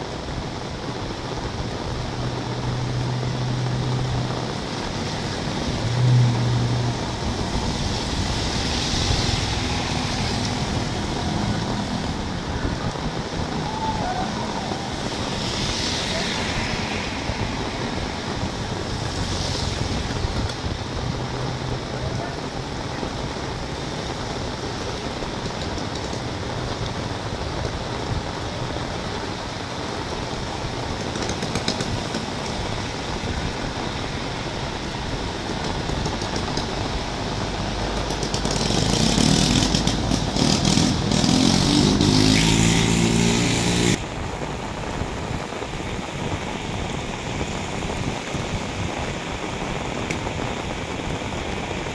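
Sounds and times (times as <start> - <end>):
heavy rain on wet road: 0.0 - 51.9
tyres splashing through water: 0.0 - 51.9
vehicle engine: 1.4 - 44.2.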